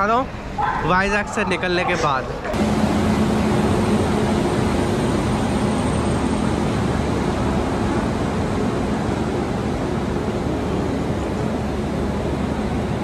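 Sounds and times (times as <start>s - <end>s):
locomotive cooling blowers rushing: 0.0s - 13.0s.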